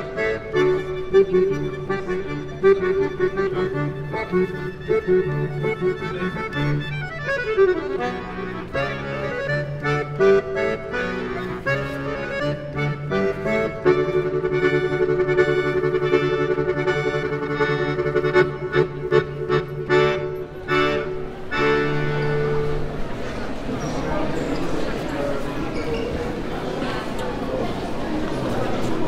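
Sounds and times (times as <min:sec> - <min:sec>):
accordion playing a tune: 0:00.0 - 0:25.6.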